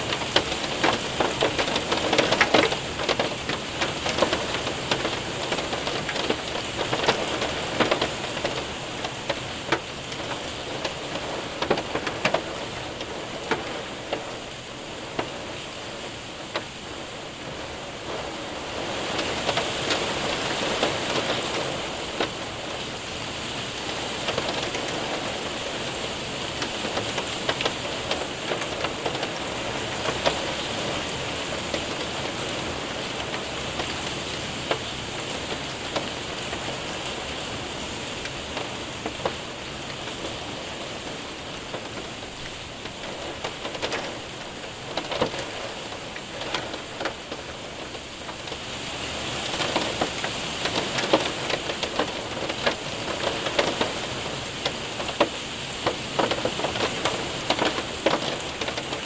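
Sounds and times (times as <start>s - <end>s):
hailstones ticking on window: 0.0s - 59.0s
rain hissing: 0.0s - 59.0s.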